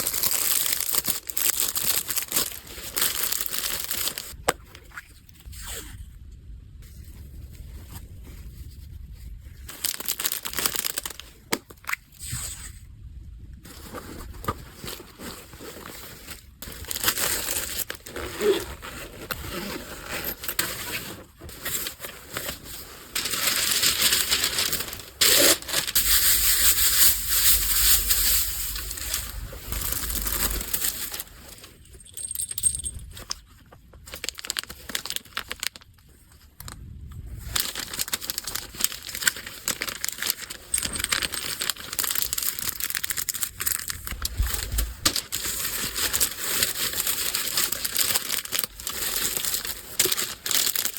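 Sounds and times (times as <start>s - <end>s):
packaging crinkling and rustling: 0.0s - 5.0s, 7.4s - 12.1s, 13.6s - 50.9s.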